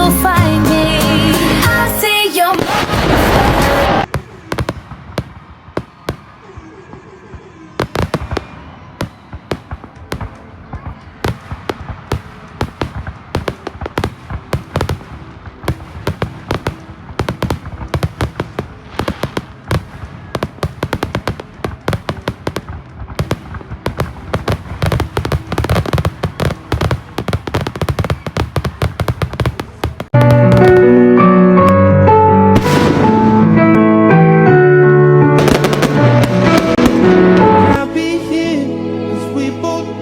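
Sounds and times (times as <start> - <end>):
fireworks bangs and crackles: 0.0 - 33.9, 35.3 - 38.1.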